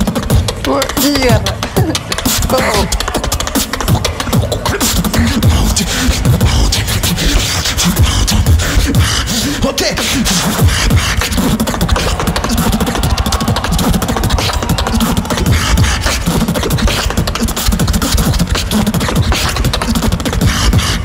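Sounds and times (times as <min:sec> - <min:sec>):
beatboxing through microphone: 0:00.0 - 0:21.0.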